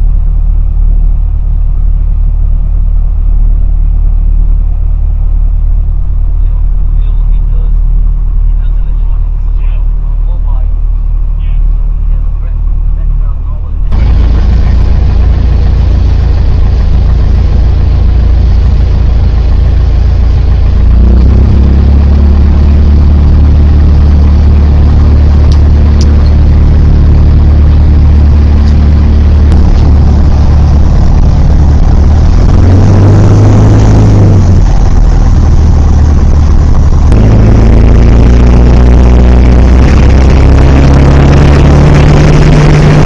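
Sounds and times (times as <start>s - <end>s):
light aircraft engine droning: 0.0s - 43.0s.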